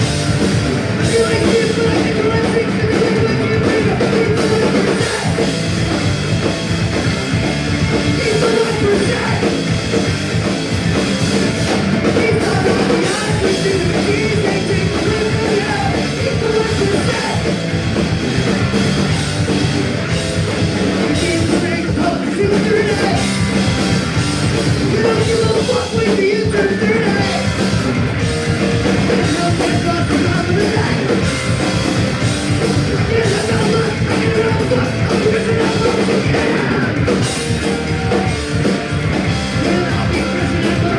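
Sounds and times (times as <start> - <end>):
punk rock band playing live: 0.0 - 40.9.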